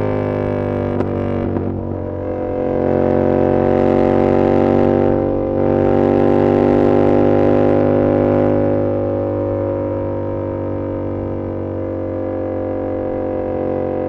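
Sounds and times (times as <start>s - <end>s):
motorcycle engine under throttle: 0.0s - 14.0s.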